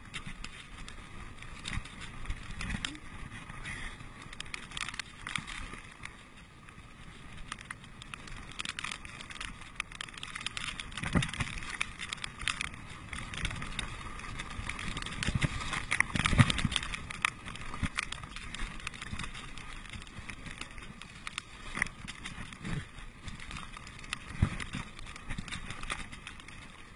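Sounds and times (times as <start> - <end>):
small clicks: 0.0 - 3.2, 4.2 - 26.9
bike rattling over bumps: 0.0 - 26.9
bike tyres on dirt: 0.0 - 26.9.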